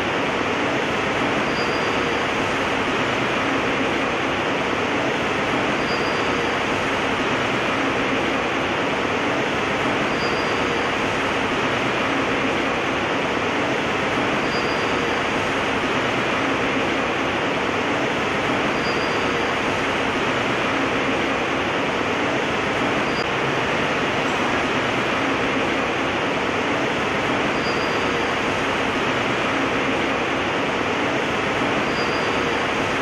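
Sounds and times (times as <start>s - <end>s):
machine running steadily: 0.0s - 33.0s.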